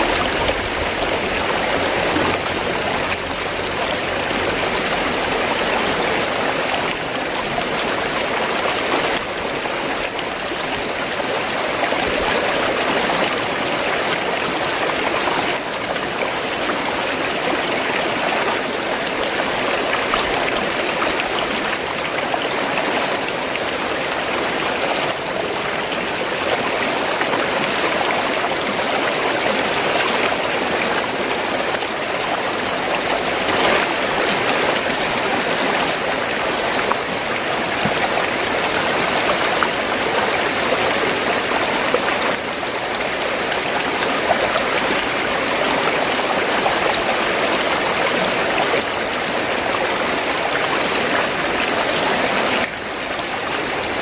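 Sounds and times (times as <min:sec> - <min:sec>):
stream water rushing and gurgling: 0:00.0 - 0:54.0.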